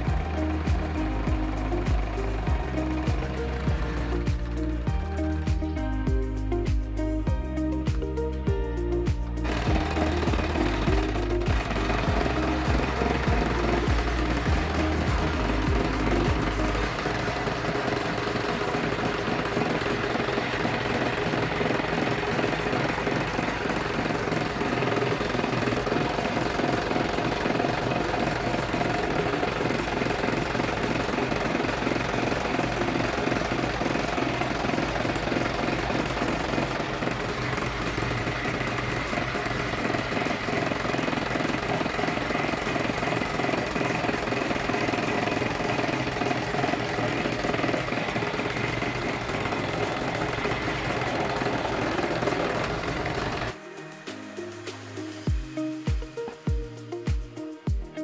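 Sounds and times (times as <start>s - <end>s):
scroll saw cutting wood: 0.0s - 6.0s, 9.4s - 56.4s.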